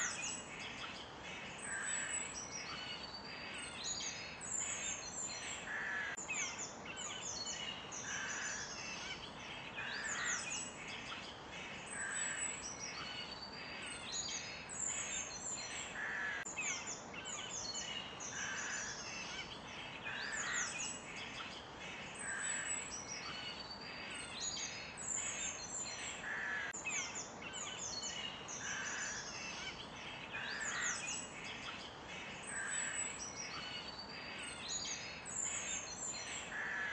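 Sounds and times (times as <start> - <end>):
small birds chirping and trilling: 0.0 - 36.9
steady background hiss: 0.0 - 36.9.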